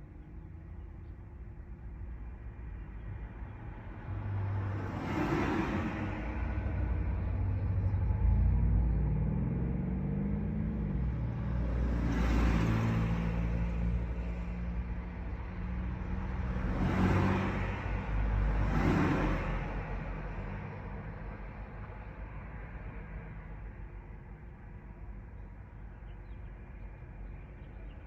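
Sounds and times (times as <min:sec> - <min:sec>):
large vehicle engine drone: 0:00.0 - 0:28.0.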